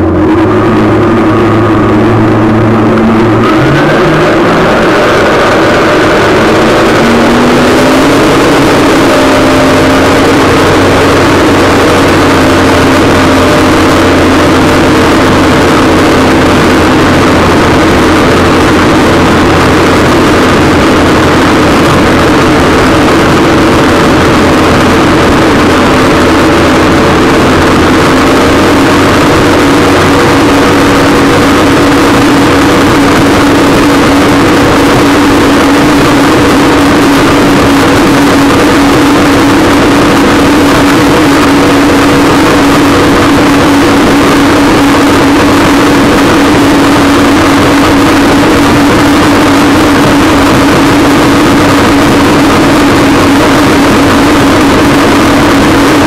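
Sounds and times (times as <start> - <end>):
rushing noise: 0.0 - 56.0
watercraft engine running: 0.0 - 56.0.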